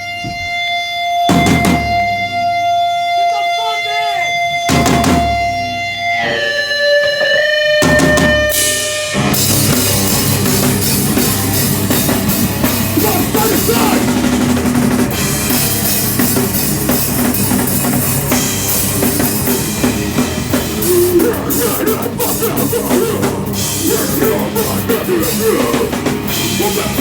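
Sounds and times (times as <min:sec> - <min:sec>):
electric guitar lead-in: 0:00.0 - 0:27.0
heavy rock band playing: 0:00.0 - 0:27.0.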